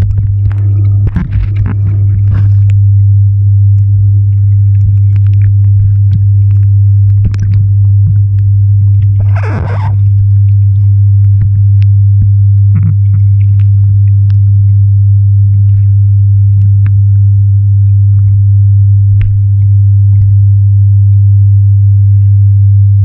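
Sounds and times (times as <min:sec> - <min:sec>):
underwater suction hum: 0:00.0 - 0:23.0.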